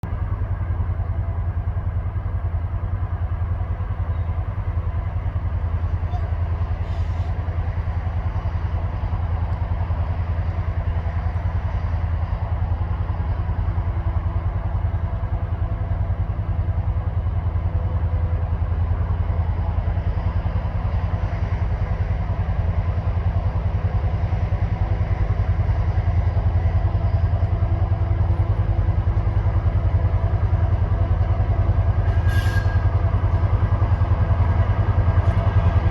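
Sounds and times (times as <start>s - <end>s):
diesel locomotive engines droning: 0.0s - 35.9s.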